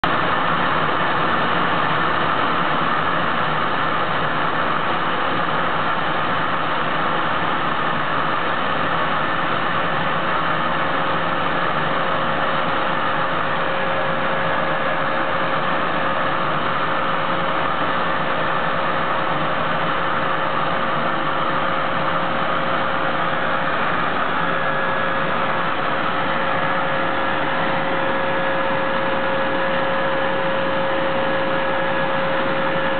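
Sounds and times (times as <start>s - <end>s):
machine and airflow rush: 0.0s - 32.9s.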